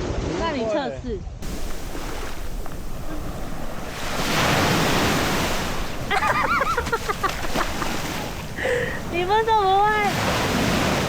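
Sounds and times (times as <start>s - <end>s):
sea waves washing on beach: 1.4s - 11.0s
wind buffeting microphone: 1.4s - 11.0s.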